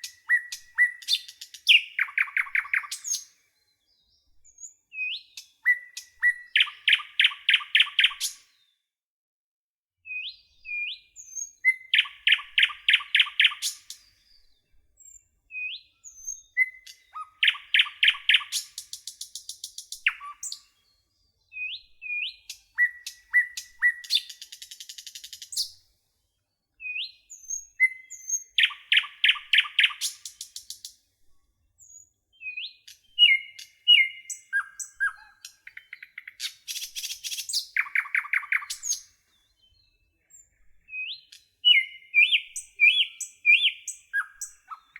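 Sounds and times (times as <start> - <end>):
nightingale singing: 0.0 - 8.5, 10.1 - 25.8, 26.7 - 31.0, 31.8 - 44.9.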